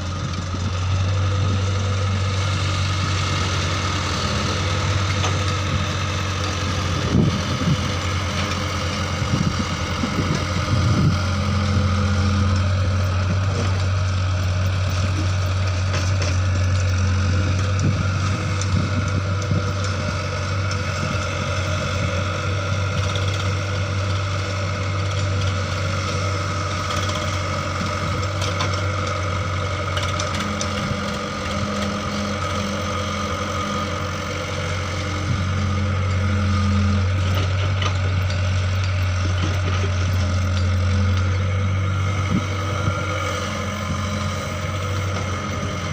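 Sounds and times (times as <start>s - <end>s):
heavy engine running: 0.0s - 45.9s.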